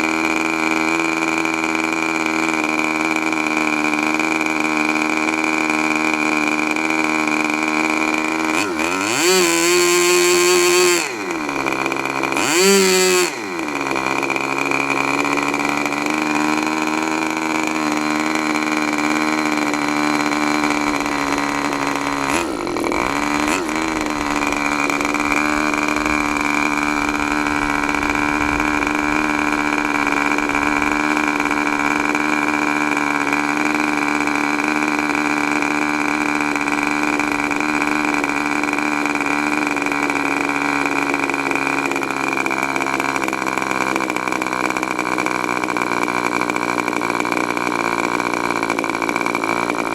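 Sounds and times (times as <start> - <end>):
model airplane engine running: 0.0 - 49.9.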